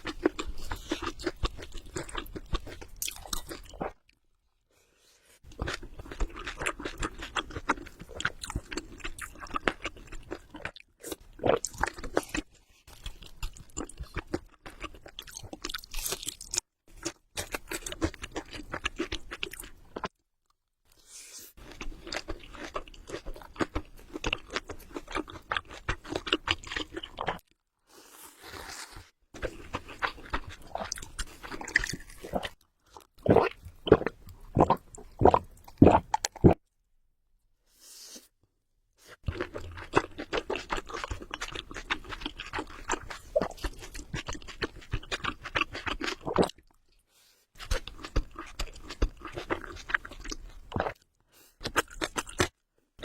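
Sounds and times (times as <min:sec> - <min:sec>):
close-up chewing and crunching: 0:00.0 - 0:04.3, 0:05.5 - 0:20.6, 0:21.6 - 0:36.6, 0:39.0 - 0:53.0.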